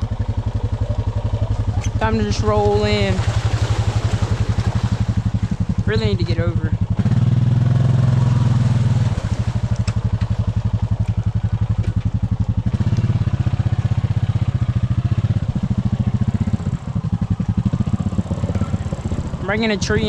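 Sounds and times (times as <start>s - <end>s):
atv engine under load: 0.0s - 20.0s.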